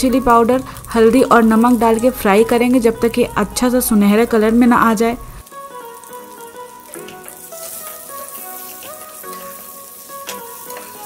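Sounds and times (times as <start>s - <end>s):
potatoes sizzling in oil: 0.0s - 11.0s
soft background music: 0.0s - 11.0s.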